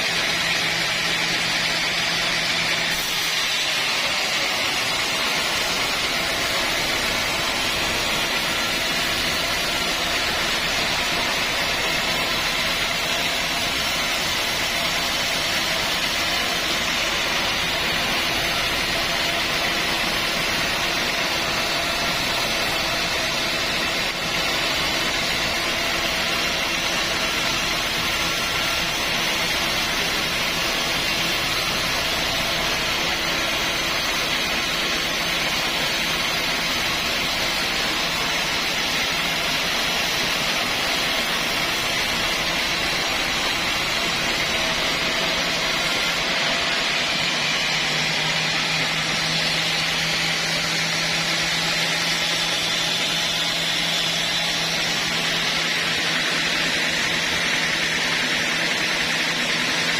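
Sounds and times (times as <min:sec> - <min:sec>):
sawmill mechanical whirr: 0:00.0 - 0:59.9.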